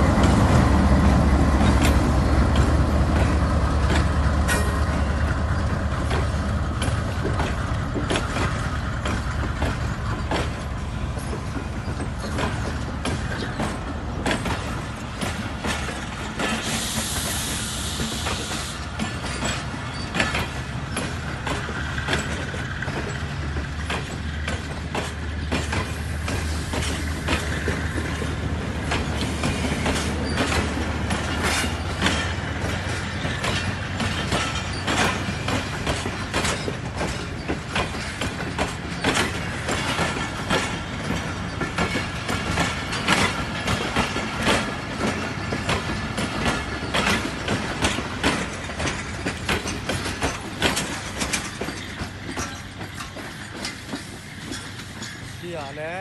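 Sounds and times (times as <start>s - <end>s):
train low rumble: 0.0s - 56.0s
wheels clicking over rail joints: 0.0s - 56.0s.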